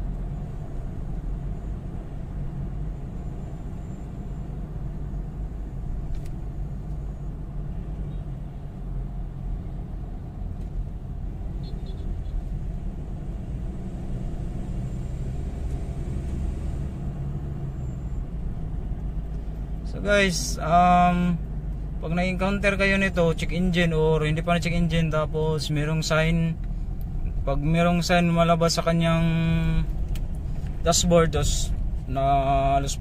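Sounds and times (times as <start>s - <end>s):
in-cabin engine and road rumble: 0.0s - 33.0s.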